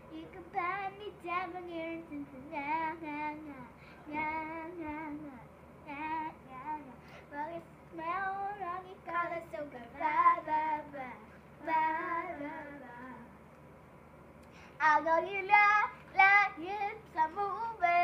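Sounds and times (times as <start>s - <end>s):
girl singing unaccompanied: 0.0s - 13.4s, 14.7s - 18.0s.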